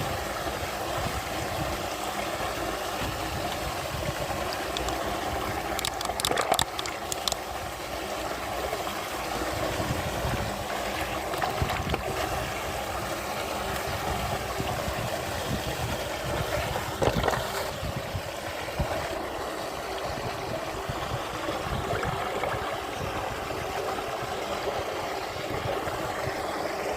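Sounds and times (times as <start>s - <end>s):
rushing gurgling water: 0.0s - 26.9s.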